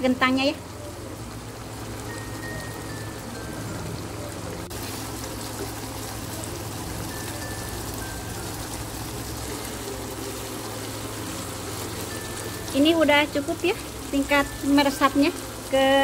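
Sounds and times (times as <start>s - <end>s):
sauce bubbling in a wok: 0.0s - 16.0s.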